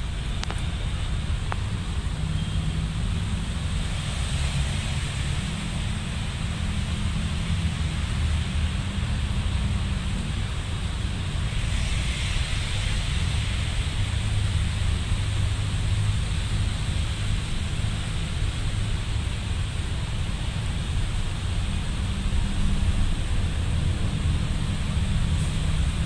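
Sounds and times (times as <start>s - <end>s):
constant low rumble: 0.0s - 26.0s
wind noise on microphone: 0.0s - 26.0s.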